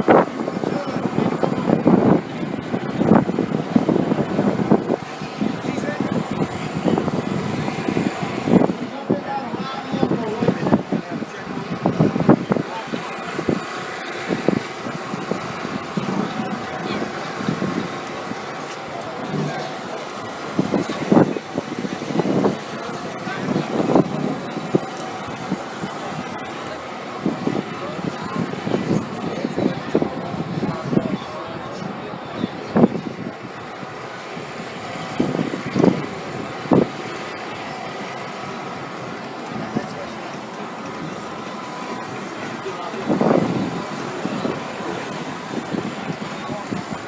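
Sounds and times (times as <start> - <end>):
faint voices: 0.0 - 47.0
vehicle engine running: 0.0 - 47.0.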